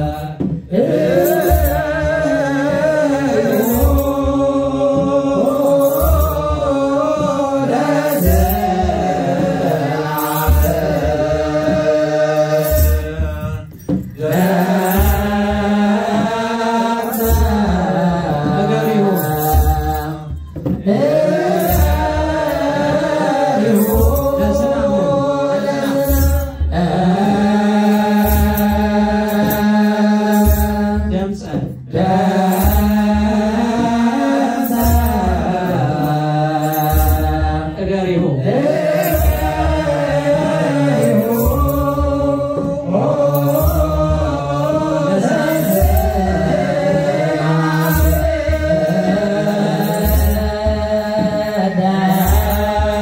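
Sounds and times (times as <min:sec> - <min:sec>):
choir chanting a hymn: 0:00.0 - 0:53.0
slow drum beat: 0:00.0 - 0:53.0.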